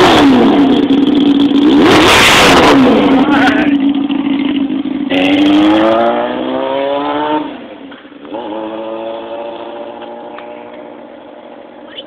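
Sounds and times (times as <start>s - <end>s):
loud motorcycle engine revving: 0.0s - 11.8s.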